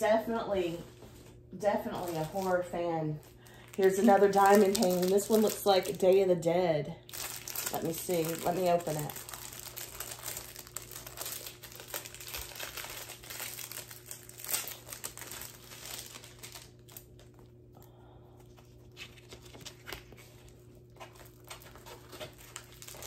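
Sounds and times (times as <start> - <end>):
packaging crinkling: 2.0 - 2.6, 3.3 - 6.3, 7.0 - 17.6, 18.4 - 23.0.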